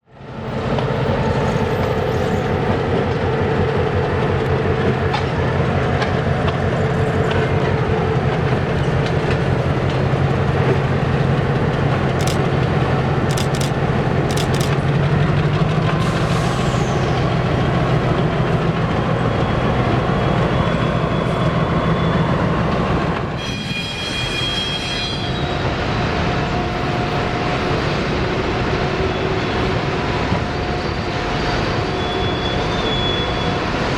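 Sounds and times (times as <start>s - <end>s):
diesel train engine drone: 0.0s - 33.9s.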